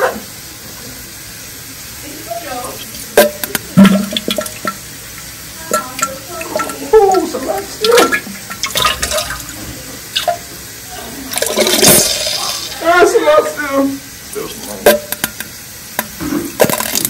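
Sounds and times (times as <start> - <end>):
water running from tap into sink: 0.0 - 17.0.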